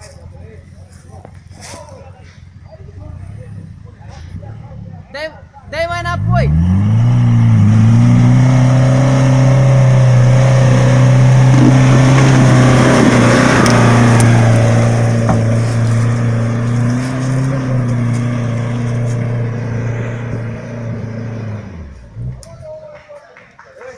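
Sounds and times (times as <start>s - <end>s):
off-road vehicle engine running: 0.0s - 23.2s.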